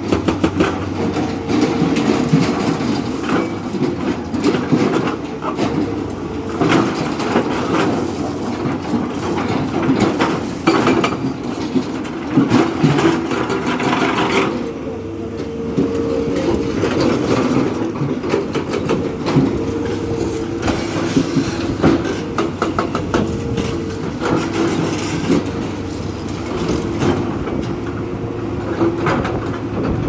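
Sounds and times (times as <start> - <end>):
diesel engine of heavy machinery: 0.0 - 30.0.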